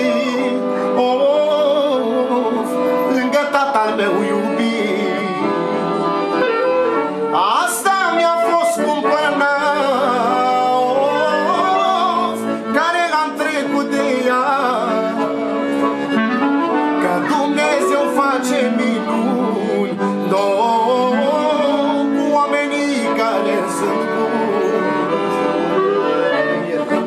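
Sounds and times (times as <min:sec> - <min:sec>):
man singing without words: 0:00.0 - 0:05.6, 0:07.4 - 0:15.4, 0:17.0 - 0:25.6
accordion melody: 0:00.0 - 0:27.0.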